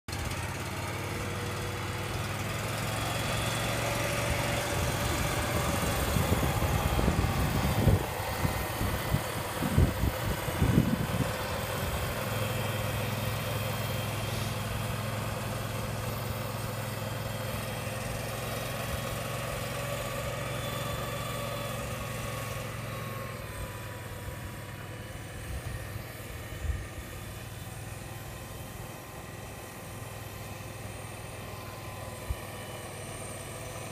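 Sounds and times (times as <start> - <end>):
small engine running: 0.1 - 33.9.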